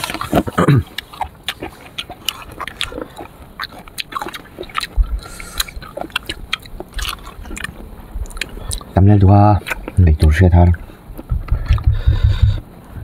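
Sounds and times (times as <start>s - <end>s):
person chewing fruit: 0.0s - 12.7s.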